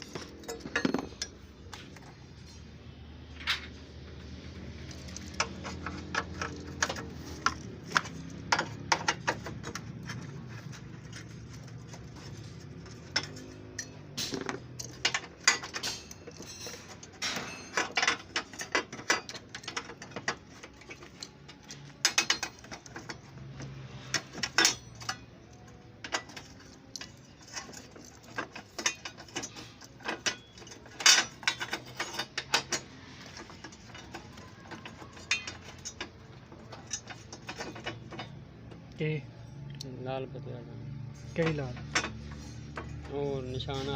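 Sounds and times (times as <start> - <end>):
metal tools clinking: 0.0 - 39.9, 41.0 - 43.9.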